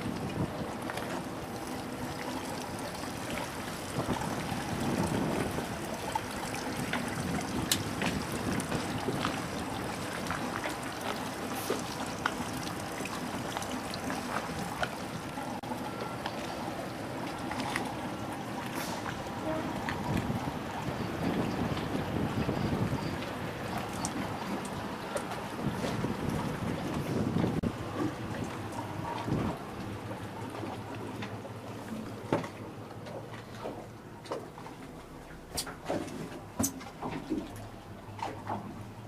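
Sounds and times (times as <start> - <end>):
water trickling and splashing: 0.0 - 39.0.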